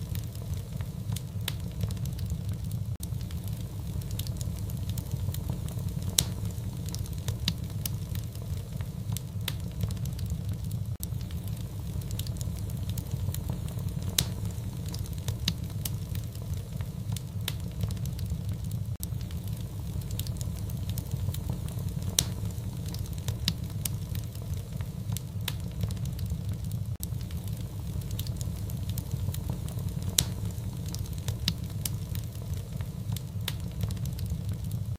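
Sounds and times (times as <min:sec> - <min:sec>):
fireplace fire crackling: 0:00.0 - 0:34.9.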